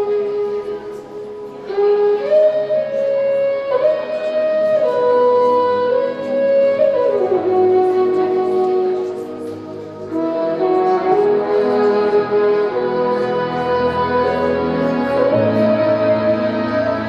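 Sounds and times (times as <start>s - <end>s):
slow instrumental tune: 0.0s - 17.0s.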